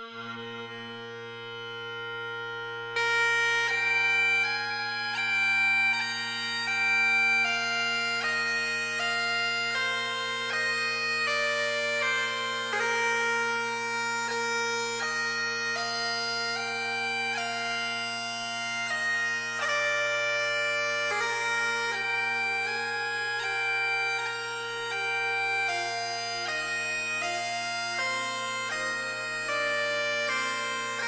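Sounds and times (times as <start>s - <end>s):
bagpipe drones: 0.0s - 31.0s
bagpipe tune: 0.0s - 31.0s.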